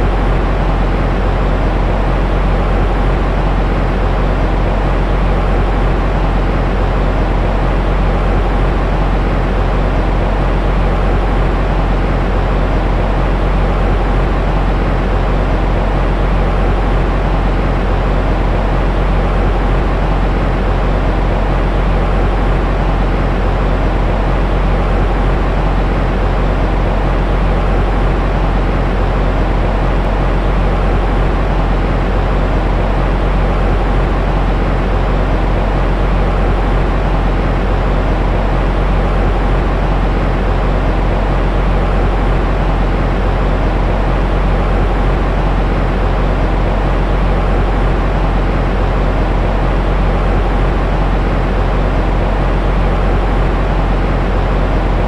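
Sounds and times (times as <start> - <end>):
white noise rush: 0.0 - 55.0.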